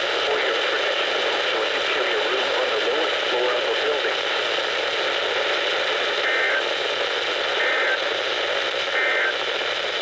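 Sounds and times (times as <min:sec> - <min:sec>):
radio static: 0:00.0 - 0:10.0.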